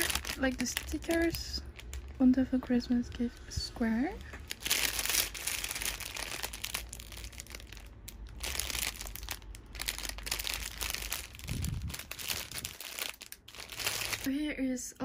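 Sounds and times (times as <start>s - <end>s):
plastic packaging crinkling: 0.0s - 3.3s, 3.9s - 14.3s.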